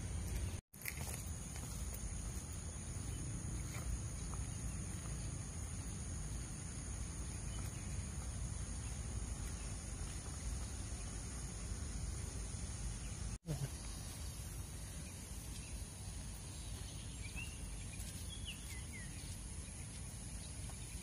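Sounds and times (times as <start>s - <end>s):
footsteps on dirt path: 0.0s - 12.4s, 13.7s - 21.0s.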